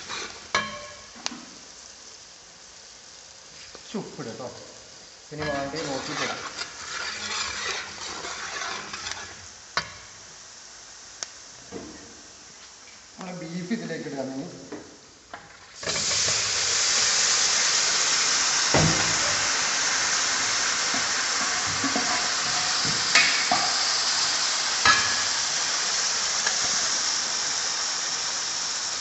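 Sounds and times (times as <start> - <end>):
loud sizzle of frying meat: 0.0 - 29.0.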